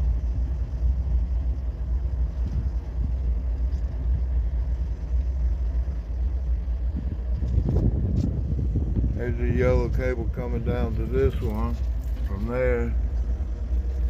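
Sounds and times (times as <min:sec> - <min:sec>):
locomotive idling: 0:00.0 - 0:14.0.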